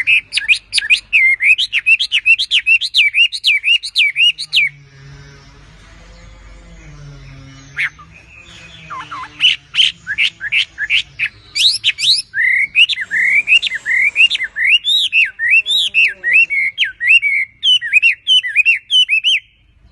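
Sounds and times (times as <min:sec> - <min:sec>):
bird singing whistled phrases: 0:00.0 - 0:04.8, 0:07.7 - 0:19.6.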